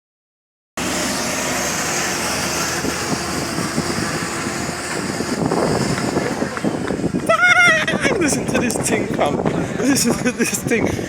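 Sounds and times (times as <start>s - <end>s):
bus engine running: 0.8s - 11.0s.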